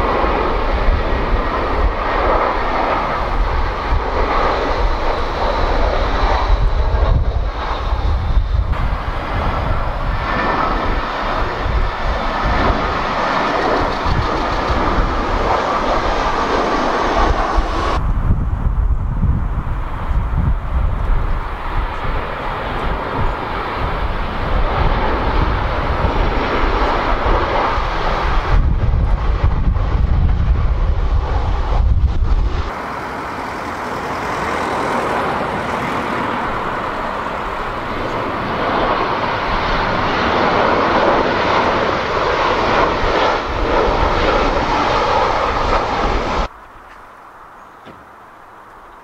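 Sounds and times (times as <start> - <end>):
wind buffeting microphone: 0.0 - 46.6
jet engines rushing: 0.0 - 49.0.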